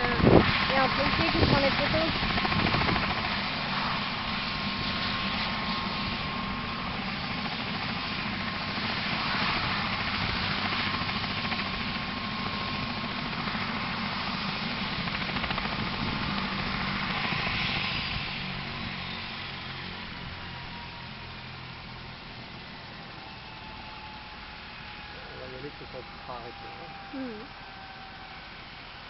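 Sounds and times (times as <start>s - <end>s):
helicopter turbine and rotor: 0.0s - 29.0s.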